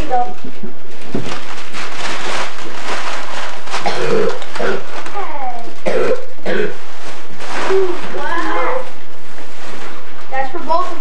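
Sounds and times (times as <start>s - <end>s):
wrapping paper rustling: 0.0s - 5.8s, 6.8s - 11.0s.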